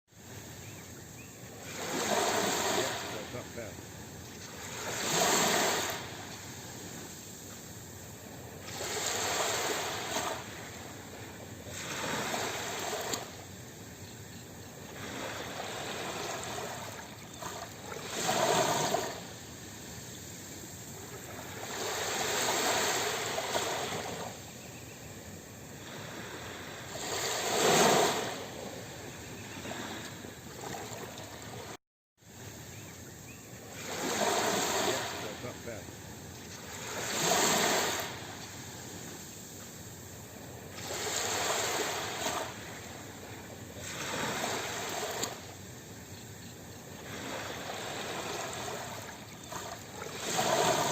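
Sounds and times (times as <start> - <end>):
sea waves breaking on shore: 0.2 - 24.7, 25.5 - 32.5, 33.6 - 50.9.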